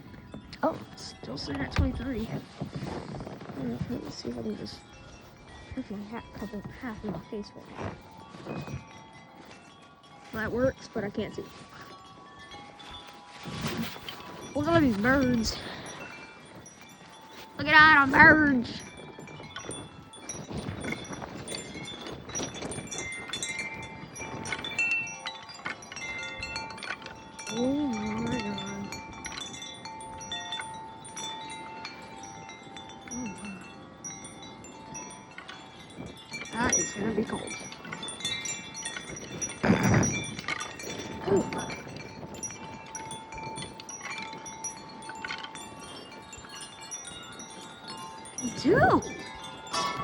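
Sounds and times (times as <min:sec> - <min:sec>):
wind buffeting microphone: 0:00.0 - 0:50.0
wind chimes ringing: 0:00.0 - 0:50.0.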